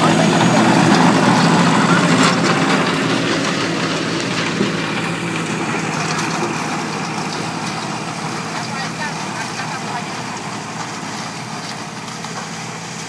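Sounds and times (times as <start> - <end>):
tiller blades churning soil: 0.0 - 13.0
tractor diesel engine running: 0.0 - 13.0.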